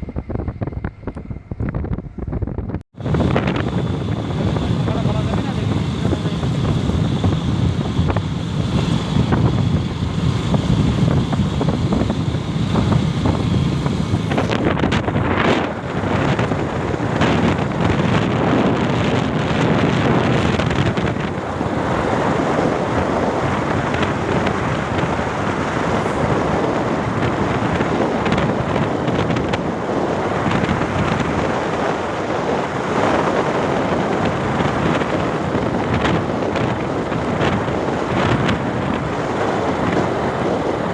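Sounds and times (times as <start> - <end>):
vehicle road noise: 0.0 - 40.9
wind buffeting microphone: 0.0 - 40.9.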